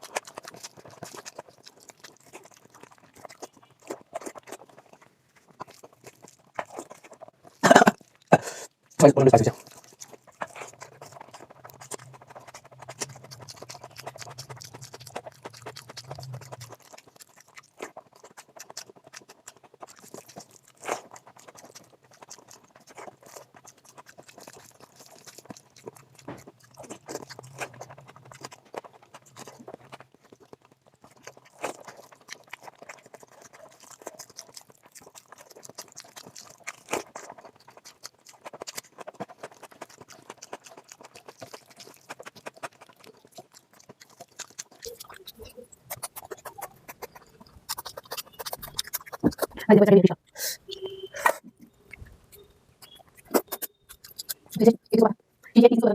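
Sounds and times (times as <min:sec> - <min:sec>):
crunching while eating: 0:00.0 - 0:55.5
chewing with wet mouth clicks: 0:00.0 - 0:55.9.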